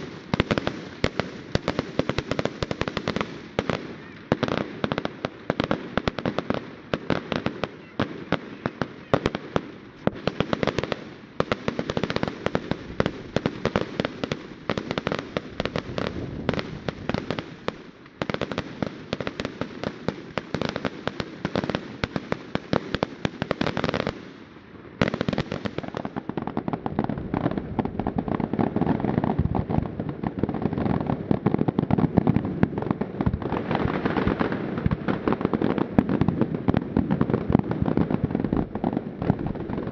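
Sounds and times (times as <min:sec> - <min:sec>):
fireworks cracking and banging: 0:00.0 - 0:39.9.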